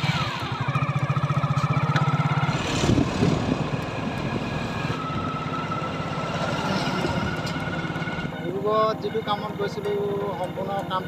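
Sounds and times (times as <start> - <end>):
motorcycle engine running: 0.0 - 11.0
passing vehicles: 0.0 - 11.0.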